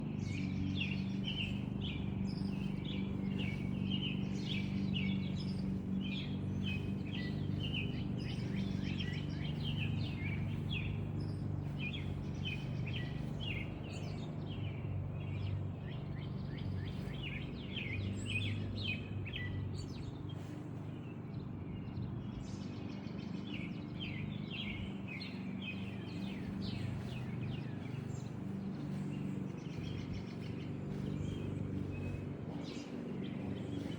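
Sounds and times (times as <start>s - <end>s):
steady low hum: 0.0s - 20.2s, 23.6s - 33.9s
small birds chirping: 0.0s - 33.9s.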